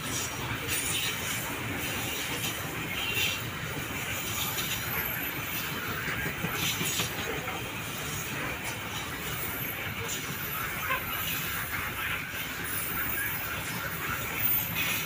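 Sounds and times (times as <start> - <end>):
freight train wheels rattling: 0.0 - 15.0.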